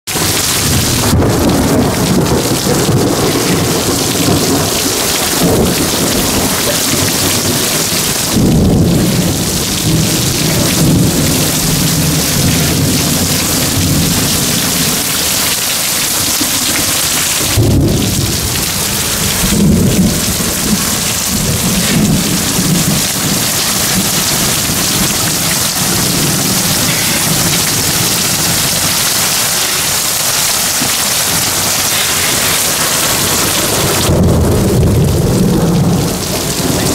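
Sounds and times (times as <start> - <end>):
heavy rain pouring on grass: 0.0 - 36.9
thunder rolling: 0.1 - 36.9.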